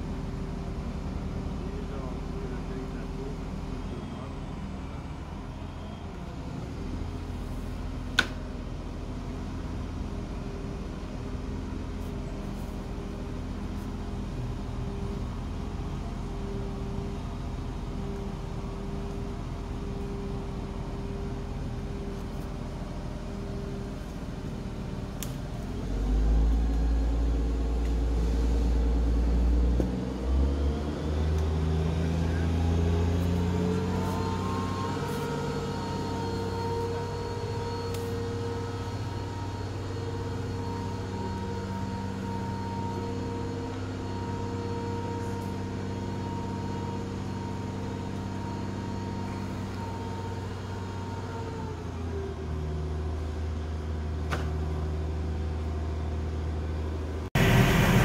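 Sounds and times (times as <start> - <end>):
crane engine running: 0.0 - 58.0.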